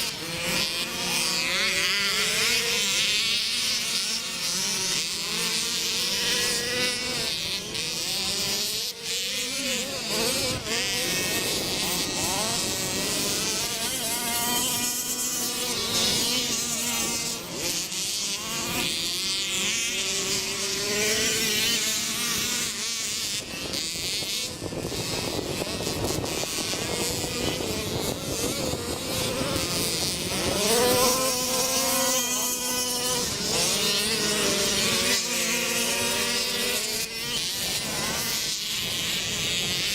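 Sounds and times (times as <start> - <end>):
off-road vehicle engines buzzing: 0.0 - 39.9.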